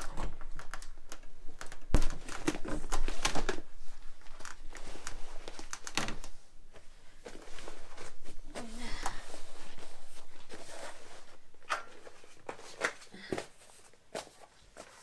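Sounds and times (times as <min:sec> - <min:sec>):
vinyl air bed crinkling: 0:00.0 - 0:13.1.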